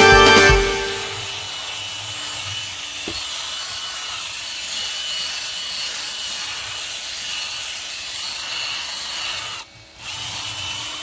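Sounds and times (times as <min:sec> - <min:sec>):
drill brush scrubbing carpet: 0:01.0 - 0:11.0.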